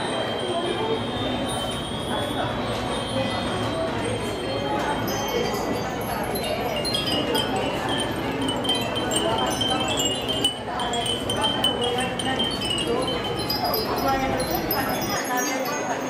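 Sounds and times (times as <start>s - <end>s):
low background hubbub: 0.0s - 16.0s
wind chimes tinkling: 0.0s - 16.0s.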